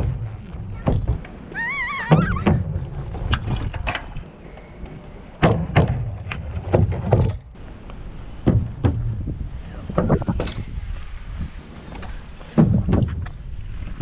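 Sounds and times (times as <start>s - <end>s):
bicycle wheels thumping on log: 0.0s - 4.3s, 5.4s - 7.5s, 8.4s - 11.1s, 11.8s - 14.0s
tyres rolling on asphalt: 0.0s - 14.0s.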